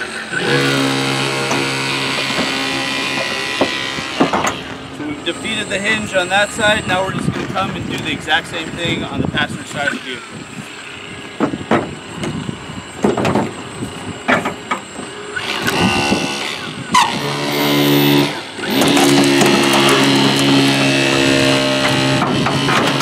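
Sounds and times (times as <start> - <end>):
hydraulic tool motor hum: 0.0 - 23.0.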